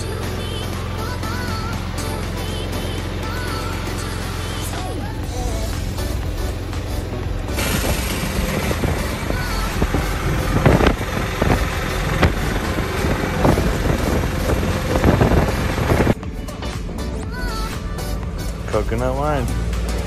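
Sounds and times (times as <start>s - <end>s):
small engine running: 0.0s - 16.2s
wind and road noise: 0.0s - 20.0s.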